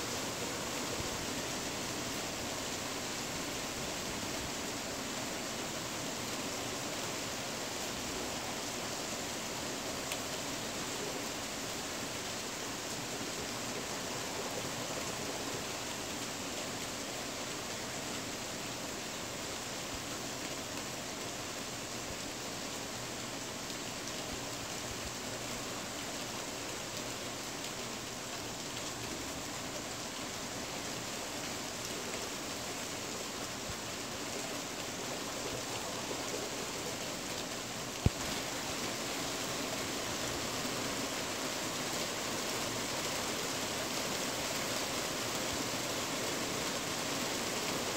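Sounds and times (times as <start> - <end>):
rain on a tin roof: 0.0 - 47.9.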